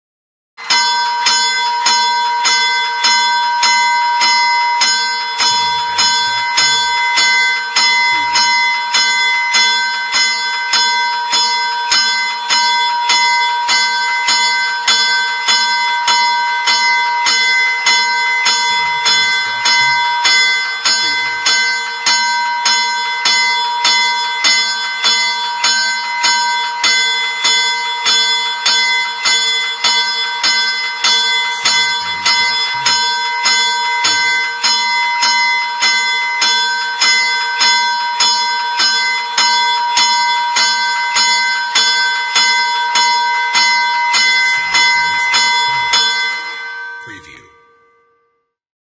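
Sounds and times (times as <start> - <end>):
railroad crossing bell: 0.6 - 48.2.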